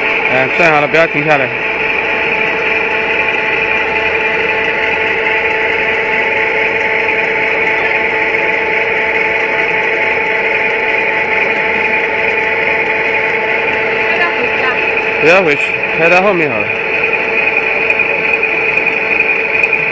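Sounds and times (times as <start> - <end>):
tank engine whirring hum: 0.0 - 19.9.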